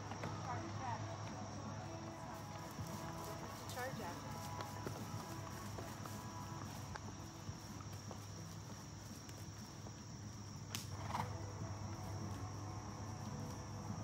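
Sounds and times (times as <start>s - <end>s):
crickets chirping: 0.0s - 14.0s
horse hooves on grass: 0.0s - 14.0s.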